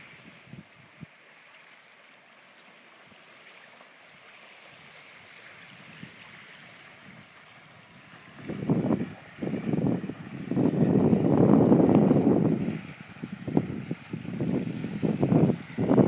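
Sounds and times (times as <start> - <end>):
faint wind: 0.0 - 16.0
water lapping: 0.0 - 16.0.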